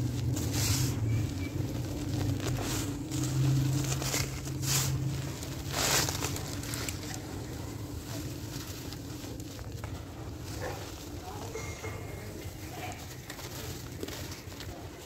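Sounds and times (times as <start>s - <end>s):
cement chunks crumbled by hand: 0.0s - 15.0s
grit pouring onto a sheet: 0.0s - 15.0s
low steady hum: 0.0s - 15.0s.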